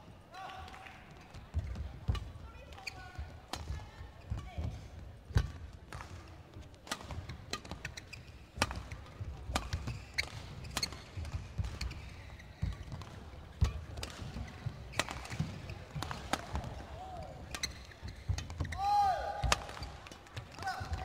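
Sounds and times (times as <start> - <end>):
rackets striking shuttlecock: 3.5 - 18.8, 19.4 - 21.0.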